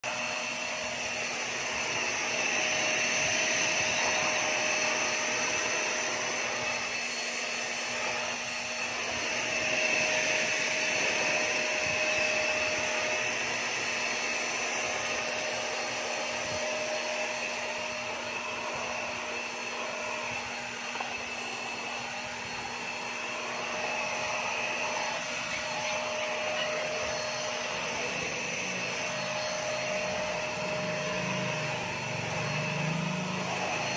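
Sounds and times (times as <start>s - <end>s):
vacuum cleaner running on rug: 0.0s - 33.9s.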